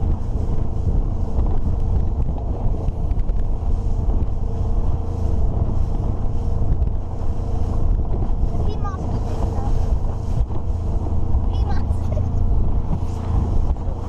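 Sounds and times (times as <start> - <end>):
motorboat engine drone: 0.0 - 14.0
wind buffeting microphone: 0.0 - 14.0.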